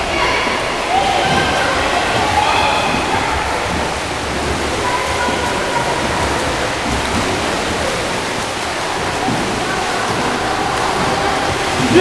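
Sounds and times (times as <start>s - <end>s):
swimmers splashing: 0.0s - 12.0s.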